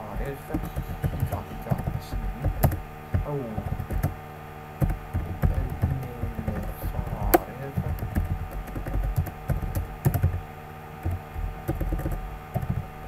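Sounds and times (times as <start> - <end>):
typing on computer keyboard: 0.0 - 4.2, 4.8 - 10.4, 11.0 - 13.0.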